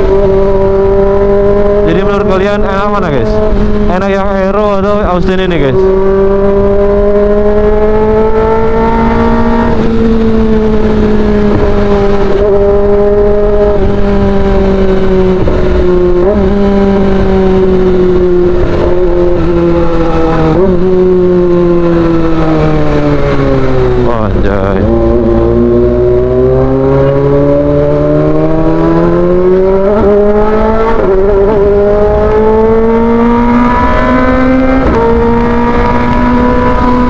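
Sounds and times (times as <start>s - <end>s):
motorcycle engine at high revs: 0.0s - 37.0s.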